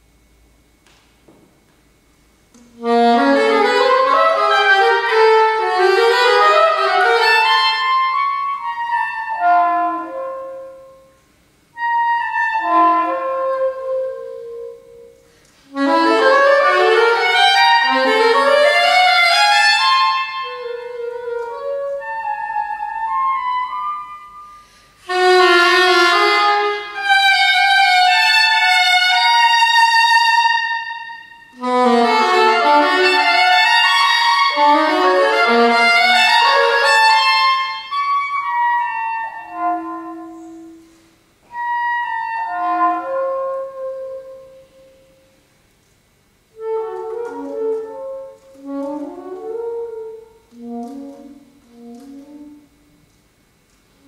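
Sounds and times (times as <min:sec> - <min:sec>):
solo saxophone: 0:02.5 - 0:45.4, 0:46.4 - 0:53.2.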